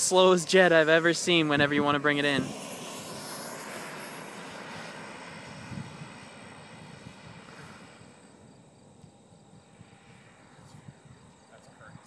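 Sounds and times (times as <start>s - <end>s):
jet turbine whining: 0.0s - 12.0s.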